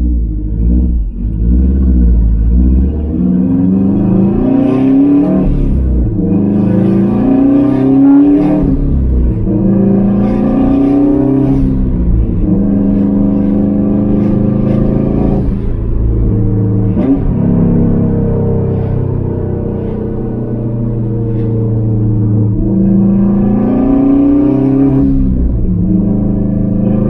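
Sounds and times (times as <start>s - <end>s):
car engine accelerating through gears: 0.0s - 27.0s.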